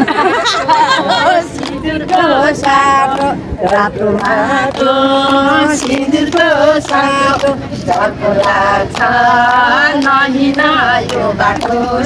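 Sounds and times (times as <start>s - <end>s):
woman singing unaccompanied: 1.2s - 12.0s.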